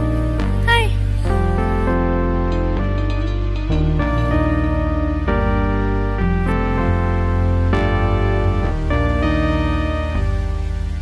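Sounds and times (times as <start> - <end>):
sustained chord music: 0.0 - 11.0.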